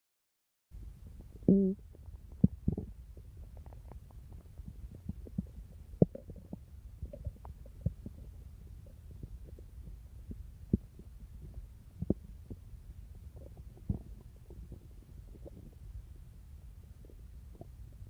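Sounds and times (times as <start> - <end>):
stomach growling: 1.0 - 18.0.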